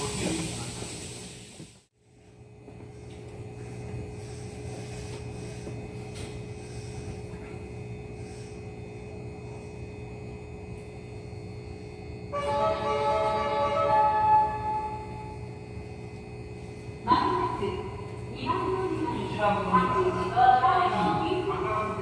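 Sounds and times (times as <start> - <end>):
train equipment hum: 0.0 - 22.0.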